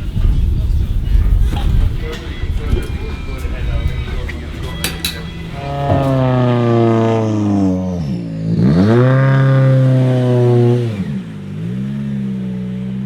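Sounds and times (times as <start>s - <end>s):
rally car engine revving: 1.2s - 13.0s.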